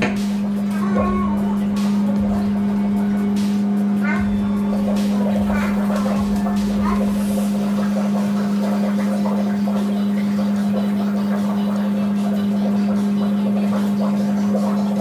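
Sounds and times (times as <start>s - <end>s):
marine engine droning: 0.0s - 15.0s.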